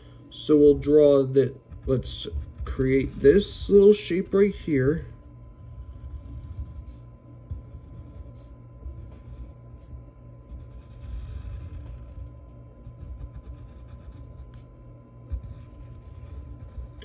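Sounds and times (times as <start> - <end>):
pencil scratching on paper: 1.5 - 17.0.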